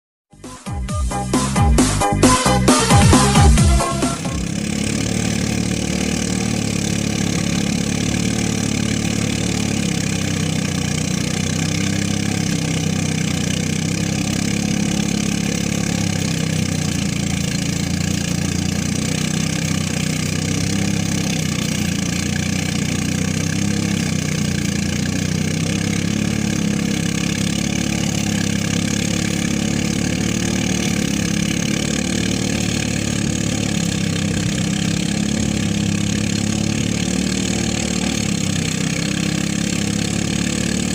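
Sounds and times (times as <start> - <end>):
threshing machine engine running: 0.4 - 40.9.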